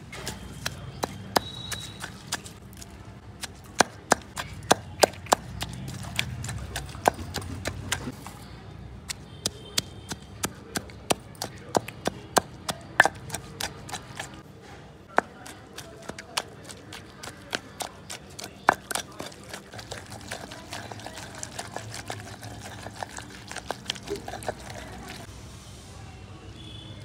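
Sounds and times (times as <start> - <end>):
pestle pounding in stone mortar: 0.2 - 2.6, 3.4 - 8.2, 9.1 - 14.4, 15.1 - 25.3.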